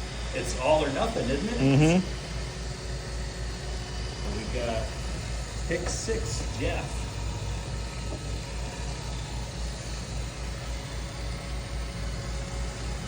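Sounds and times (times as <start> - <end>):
robot vacuum motor humming: 0.0 - 13.0.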